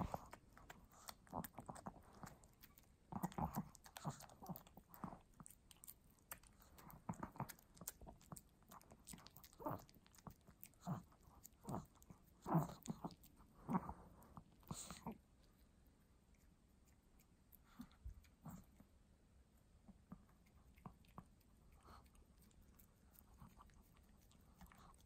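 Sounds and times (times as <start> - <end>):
dog chewing and smacking: 0.0 - 18.9, 19.9 - 25.0.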